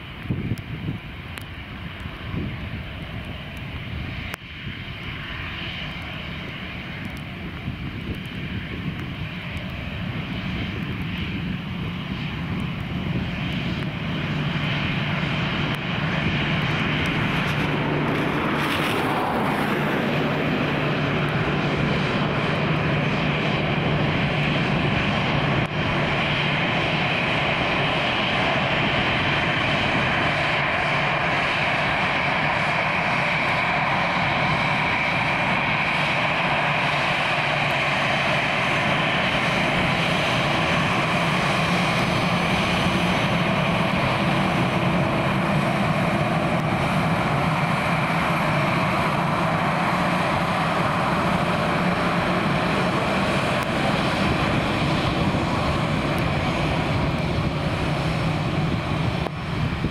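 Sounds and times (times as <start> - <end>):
jet engines humming and whining: 0.0 - 59.9.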